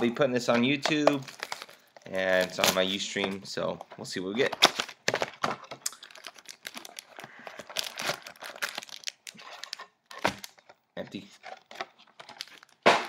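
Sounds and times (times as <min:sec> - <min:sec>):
card packs crinkling: 0:00.6 - 0:13.0.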